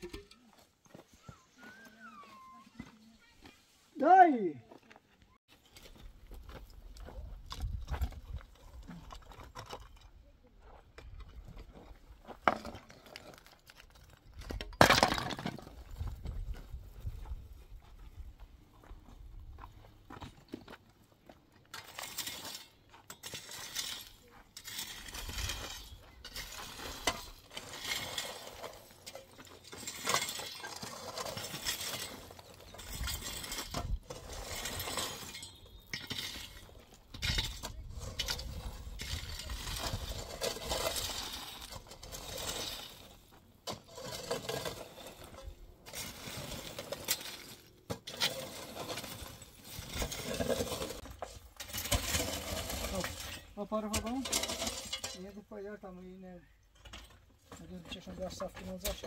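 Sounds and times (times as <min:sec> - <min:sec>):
shovels and rake scraping dirt: 0:00.0 - 0:18.3, 0:19.2 - 0:59.0.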